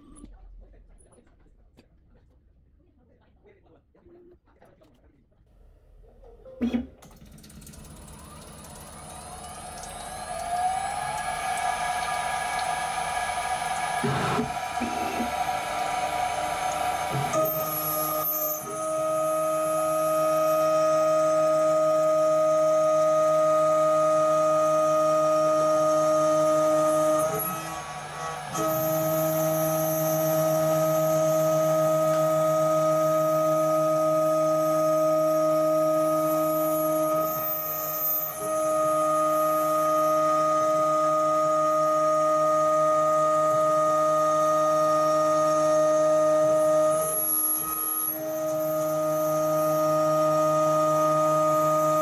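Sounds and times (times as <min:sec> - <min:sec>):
milling machine whining: 0:06.7 - 0:52.0.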